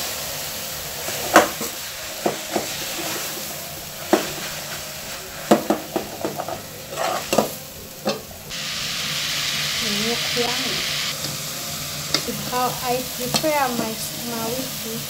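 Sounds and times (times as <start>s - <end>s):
vegetables sizzling in a pot: 0.0s - 15.0s.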